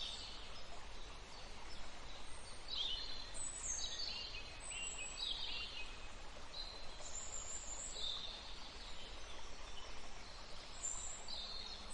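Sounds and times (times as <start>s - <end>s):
low background hiss: 0.0s - 11.9s.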